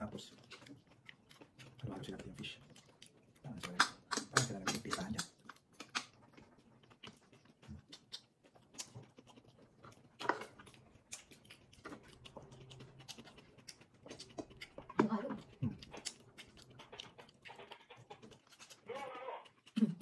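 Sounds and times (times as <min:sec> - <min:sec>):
faint chewing: 0:00.0 - 0:20.0
mouth clicks and crackles: 0:00.0 - 0:20.0.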